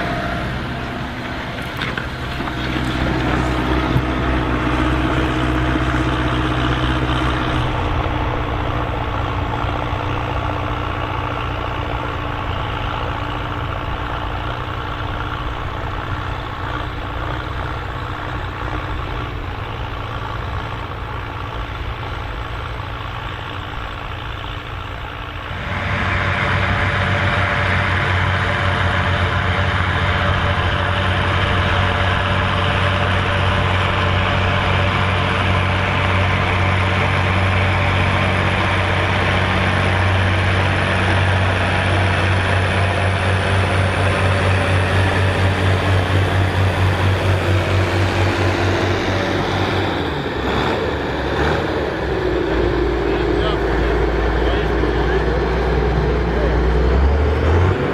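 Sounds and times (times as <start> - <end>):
tractor engines running: 0.0 - 57.9.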